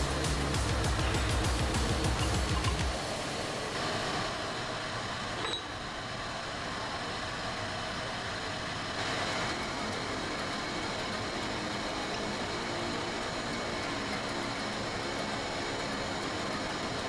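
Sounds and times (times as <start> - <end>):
industrial workshop background noise: 0.0 - 17.0.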